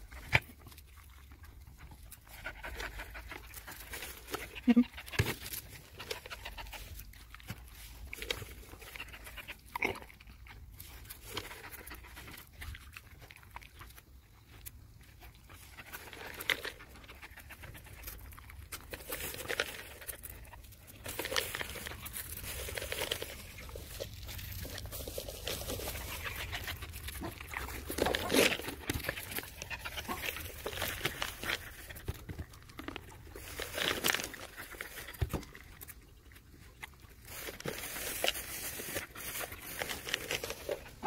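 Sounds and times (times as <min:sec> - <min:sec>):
dogs chewing crunches: 0:00.0 - 0:41.0
rustling: 0:00.0 - 0:41.0.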